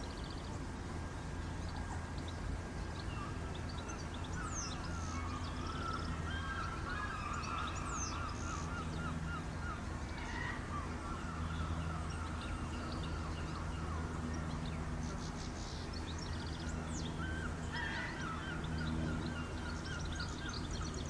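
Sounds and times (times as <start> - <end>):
birds calling and chirping: 0.0 - 21.0
low mechanical hum: 0.0 - 21.0.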